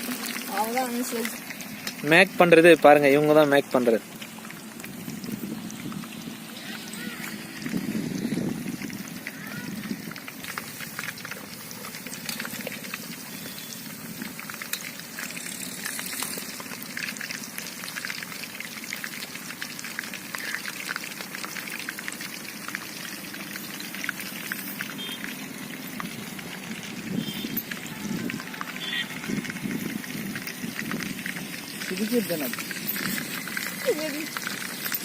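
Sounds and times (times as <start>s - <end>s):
oil bubbling and crackling: 0.0s - 35.0s.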